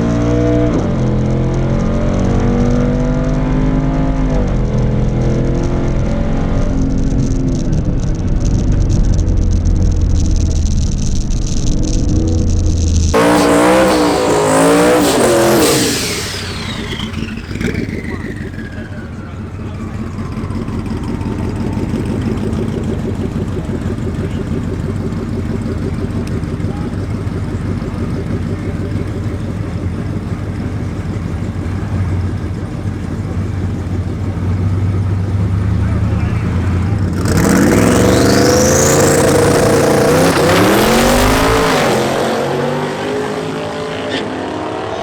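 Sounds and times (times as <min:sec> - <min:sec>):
drag car engine at high revs: 0:00.0 - 0:45.0.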